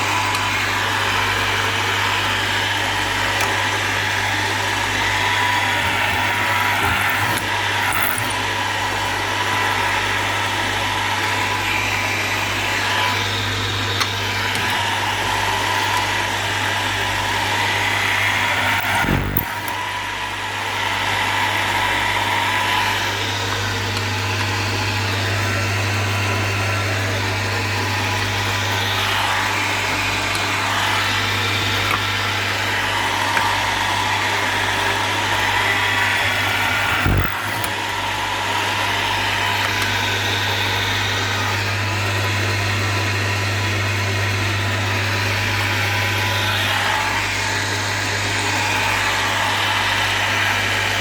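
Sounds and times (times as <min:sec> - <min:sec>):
electric motor humming: 0:00.0 - 0:51.0.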